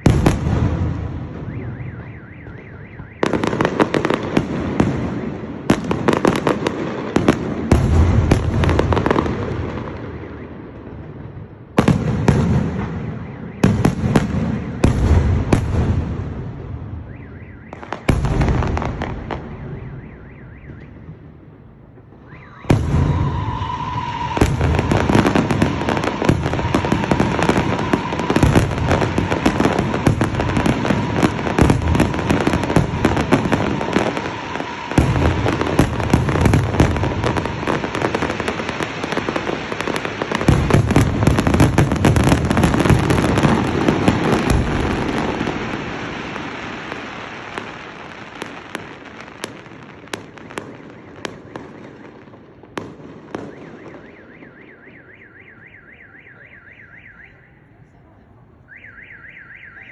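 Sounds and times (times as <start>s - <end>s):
fireworks bangs and crackling: 0.0s - 57.3s.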